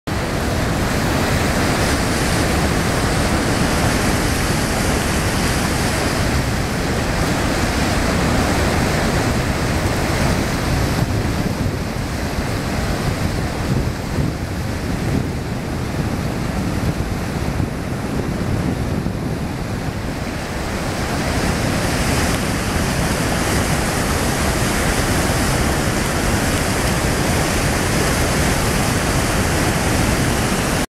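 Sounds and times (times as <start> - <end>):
rushing whitewater: 0.1 - 30.9.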